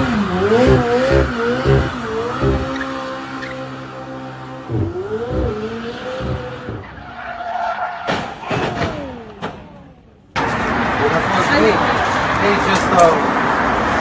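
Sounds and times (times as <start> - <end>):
car tyres squealing: 0.0 - 9.5, 10.4 - 14.0.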